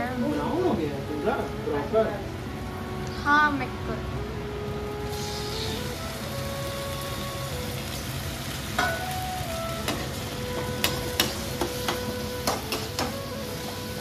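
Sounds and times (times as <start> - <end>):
onions and tomatoes sizzling: 0.0 - 14.0.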